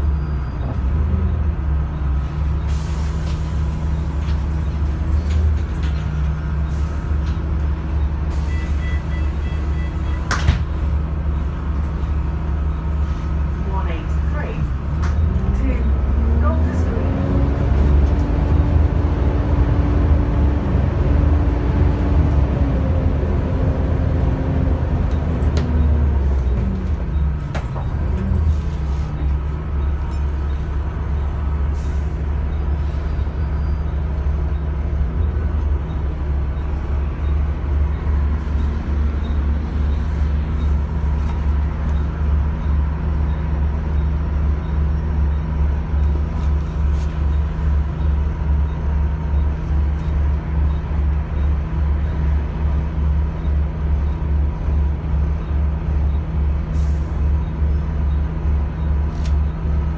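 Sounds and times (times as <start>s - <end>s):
bus diesel engine hum: 0.0s - 59.9s.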